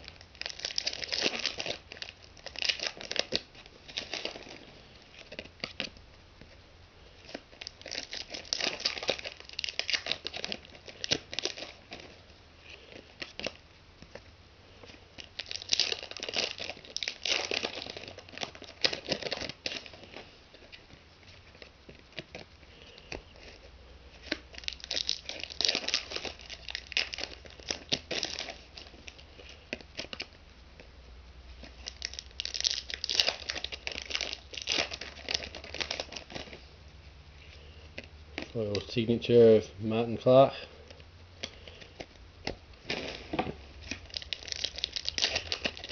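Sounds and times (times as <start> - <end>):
foil packs torn and crinkled: 0.0 - 6.0, 7.1 - 30.4, 31.6 - 36.6, 40.8 - 45.9.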